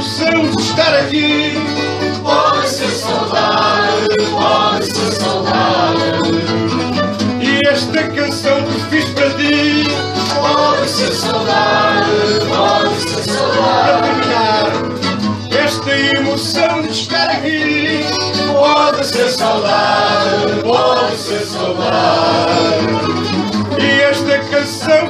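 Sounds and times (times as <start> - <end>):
plucked guitar: 0.0 - 25.0.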